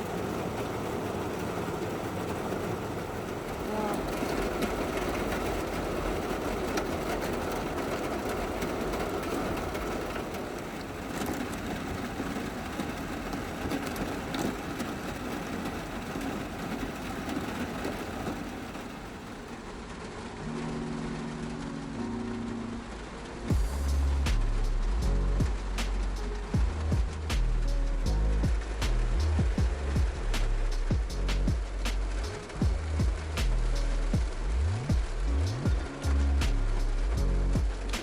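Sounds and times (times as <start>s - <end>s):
low steady tones: 0.0s - 38.0s
sharp raindrop taps: 0.0s - 38.0s
steady rain falling: 0.0s - 38.0s.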